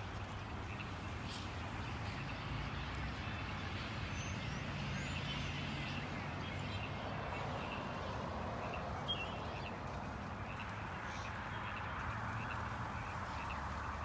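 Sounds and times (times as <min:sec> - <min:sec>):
flock of birds chattering: 0:00.0 - 0:14.0.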